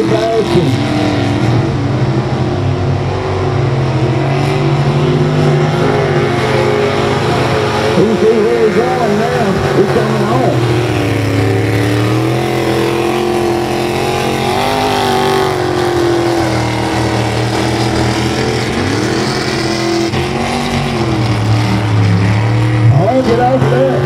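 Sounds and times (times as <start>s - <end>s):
truck engines revving hard: 0.0s - 24.0s.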